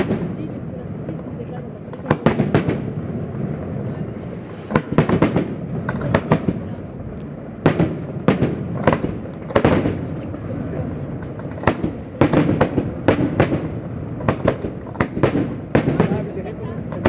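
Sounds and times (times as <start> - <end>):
firework shells bursting: 1.8 - 17.0.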